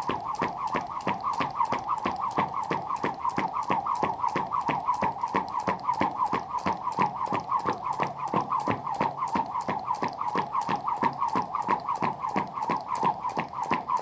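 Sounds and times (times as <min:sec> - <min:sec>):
jump rope slapping the ground: 0:00.0 - 0:14.0
rope whistling through air: 0:00.0 - 0:14.0.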